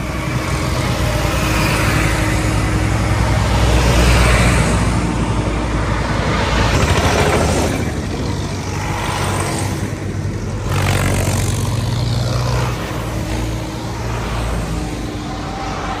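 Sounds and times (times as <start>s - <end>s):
tractor engines passing: 0.0s - 16.0s.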